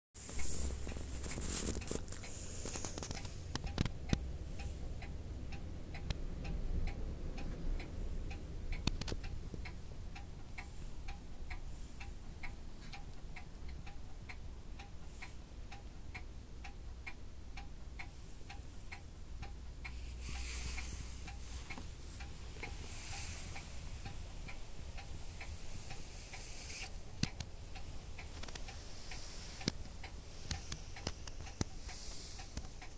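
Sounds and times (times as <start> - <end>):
low steady hum: 0.2 - 32.9
clock ticking: 0.3 - 32.9.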